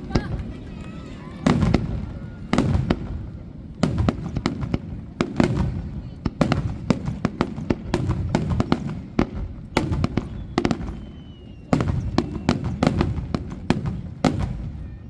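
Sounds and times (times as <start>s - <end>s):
fireworks cracks and booms: 0.0s - 15.0s.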